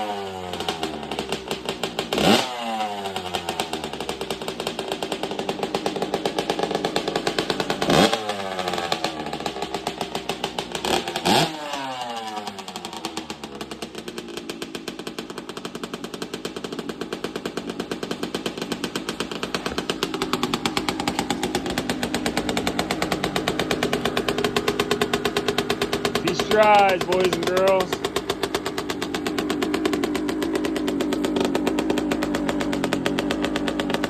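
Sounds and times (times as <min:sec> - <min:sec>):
dirt bike engine idling and revving: 0:00.0 - 0:34.0.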